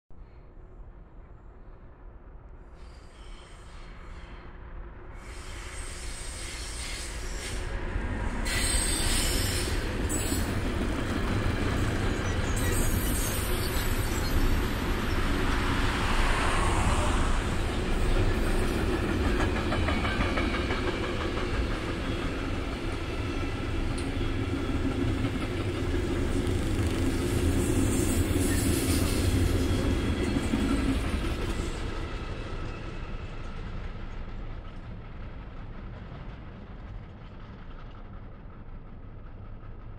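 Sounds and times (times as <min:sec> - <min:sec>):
freight train rumbling past: 0:00.3 - 0:39.9.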